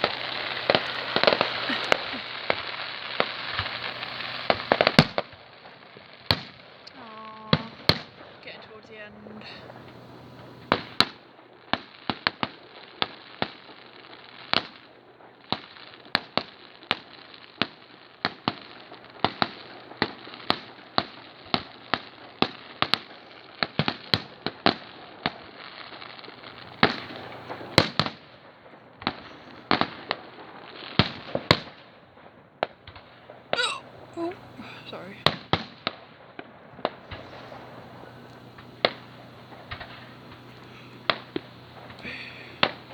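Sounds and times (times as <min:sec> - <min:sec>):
fireworks crackle: 0:00.0 - 0:42.9.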